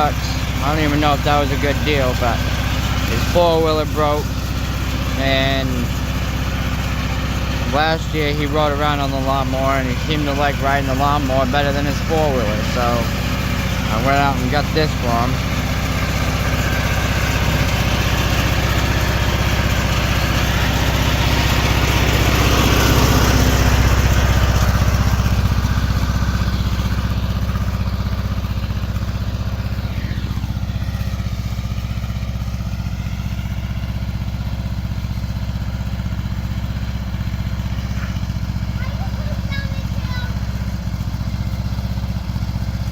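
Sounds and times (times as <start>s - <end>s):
riding lawn mower engine: 0.0s - 42.9s.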